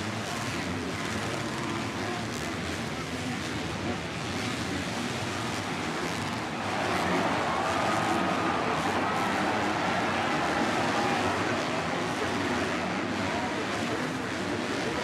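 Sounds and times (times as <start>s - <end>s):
dirt bike engines racing: 0.0s - 15.0s.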